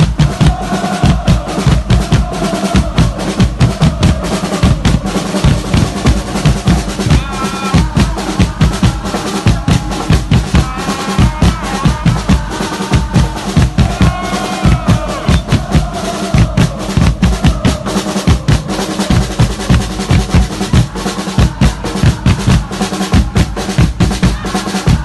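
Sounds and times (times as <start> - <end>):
crowd chanting: 0.0 - 25.0
drums beating fast rhythm: 0.0 - 25.0.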